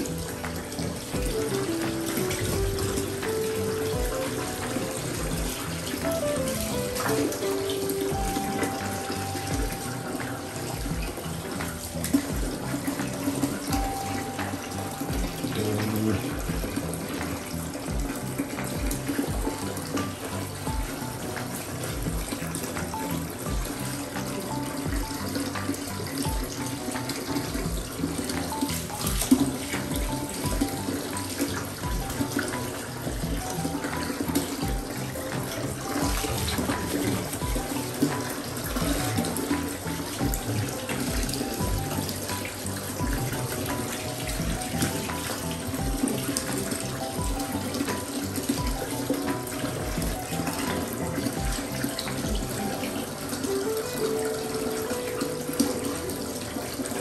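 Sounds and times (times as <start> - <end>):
background music with low beat: 0.0 - 57.0
bath water running: 0.0 - 57.0.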